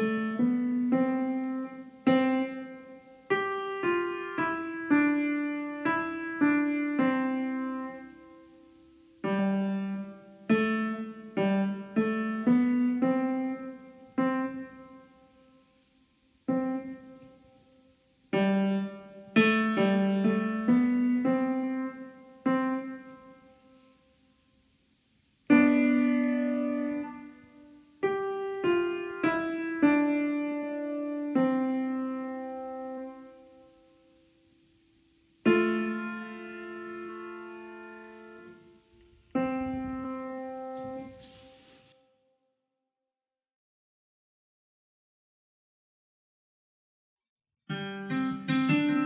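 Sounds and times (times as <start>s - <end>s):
piano melody: 0.0s - 15.7s, 16.5s - 23.9s, 25.5s - 34.2s, 35.4s - 41.9s, 47.7s - 49.0s.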